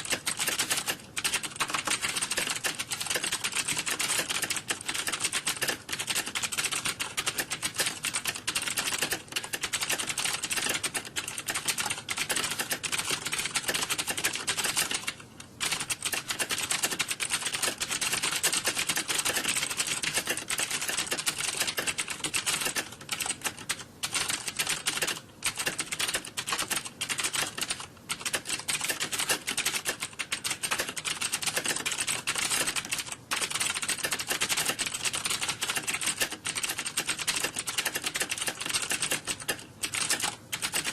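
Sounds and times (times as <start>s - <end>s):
keyboard typing: 0.0s - 40.9s.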